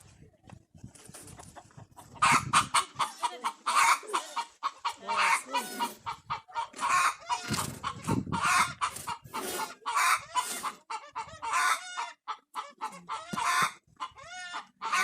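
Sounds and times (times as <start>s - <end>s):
chickens clucking: 0.6s - 15.0s.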